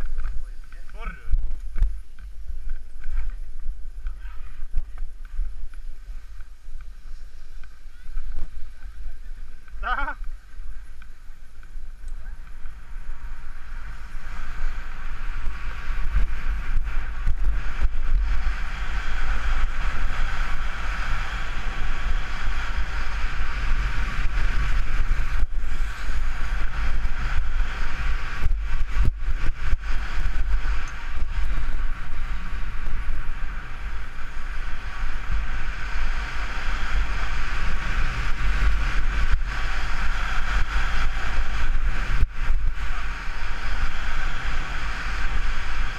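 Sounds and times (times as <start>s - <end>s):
skis carving packed snow: 0.0s - 45.9s
wind buffeting a camera: 0.0s - 45.9s.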